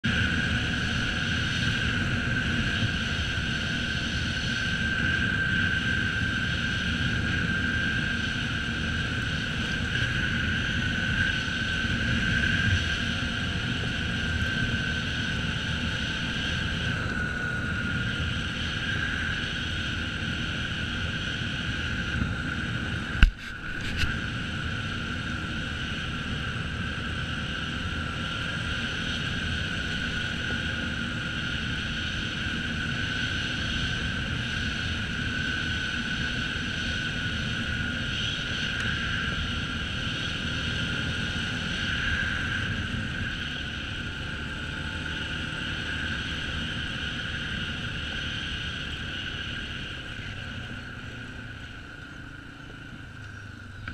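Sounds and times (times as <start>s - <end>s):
atv engine riding: 0.0s - 53.9s
tyres and wind rumble: 0.0s - 53.9s.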